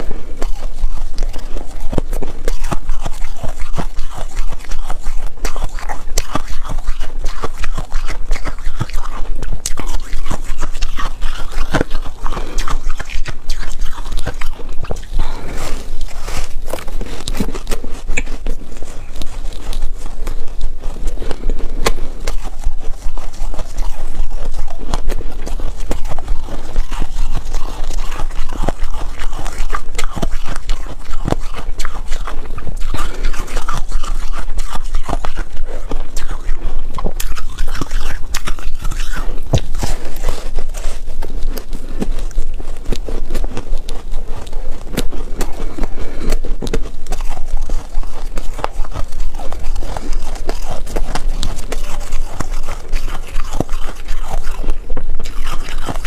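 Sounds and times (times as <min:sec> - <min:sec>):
biting and chewing ice: 0:00.0 - 0:56.0.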